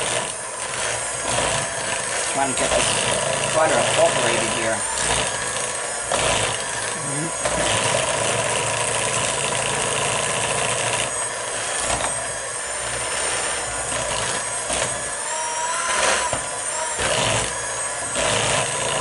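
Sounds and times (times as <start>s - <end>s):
electric mixer running: 0.0s - 19.0s.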